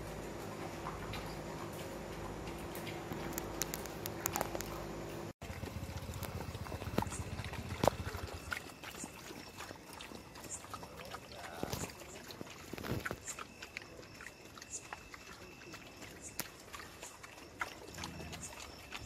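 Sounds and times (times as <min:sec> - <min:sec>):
dogs chewing and lapping food: 0:00.0 - 0:19.0.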